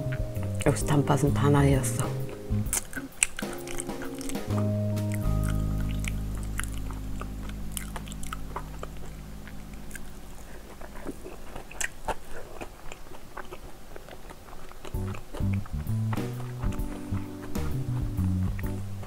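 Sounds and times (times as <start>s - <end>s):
wet chewing: 0.0s - 0.7s, 2.0s - 19.0s
crackly crust bites: 2.7s - 19.0s.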